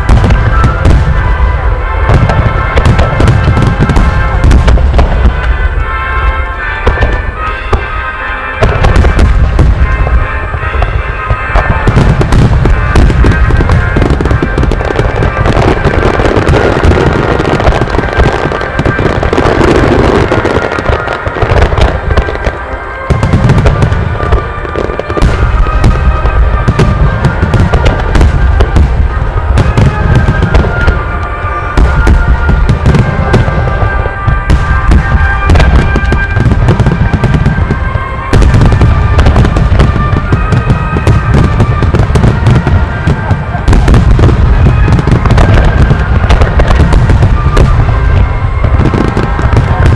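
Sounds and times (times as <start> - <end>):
fireworks bursts with crackling: 0.0 - 49.9.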